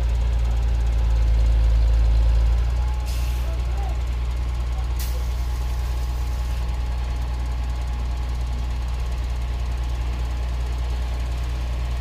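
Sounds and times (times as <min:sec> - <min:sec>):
diesel engines droning: 0:00.0 - 0:12.0.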